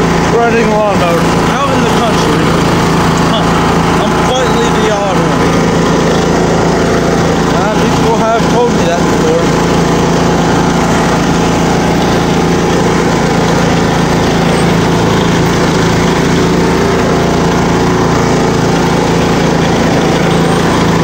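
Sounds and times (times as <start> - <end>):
riding lawn mower engine running: 0.0 - 21.0.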